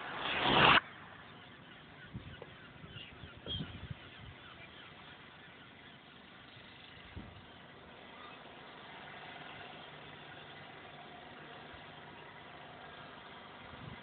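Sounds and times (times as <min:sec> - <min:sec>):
distant engine hum: 0:00.0 - 0:14.0.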